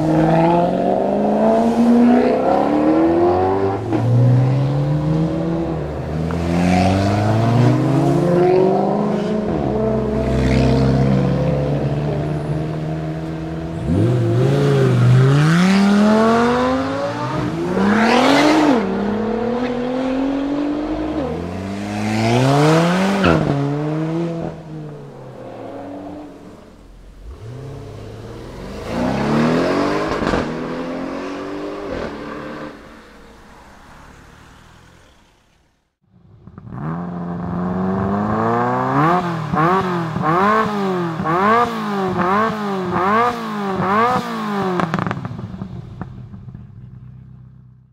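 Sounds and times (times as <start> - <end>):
engine revving: 0.0 - 32.8, 36.4 - 45.4
cars accelerating past: 0.0 - 45.5.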